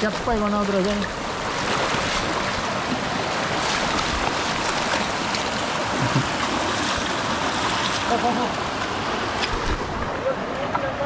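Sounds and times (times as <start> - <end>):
river rushing over rocks: 0.1 - 11.0.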